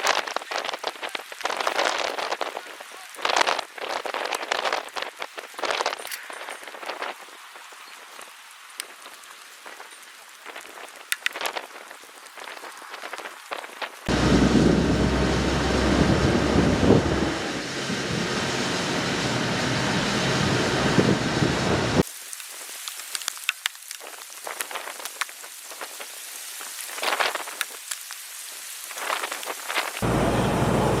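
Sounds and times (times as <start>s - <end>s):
heavy rain pouring: 0.0s - 5.9s, 6.7s - 31.0s.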